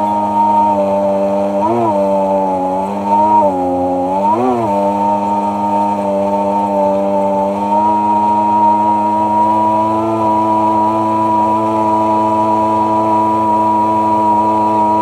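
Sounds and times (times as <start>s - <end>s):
personal watercraft engine running: 0.0s - 15.0s.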